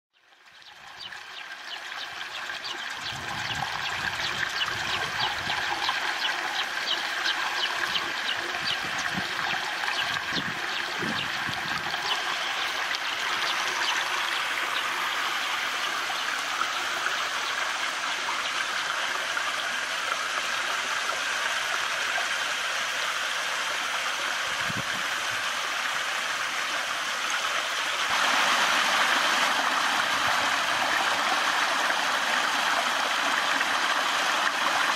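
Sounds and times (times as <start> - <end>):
stream trickling over rocks: 0.2 - 34.9.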